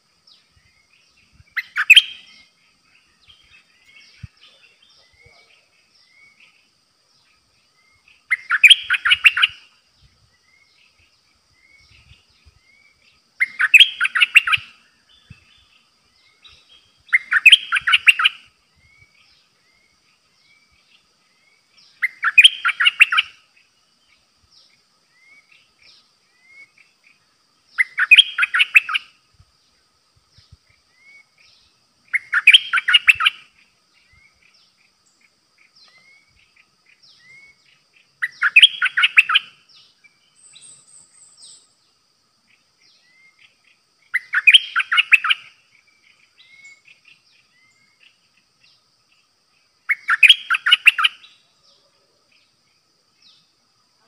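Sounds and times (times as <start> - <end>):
bulbul singing: 0.0 - 29.2, 30.3 - 53.6
faint high chirps: 0.0 - 54.0.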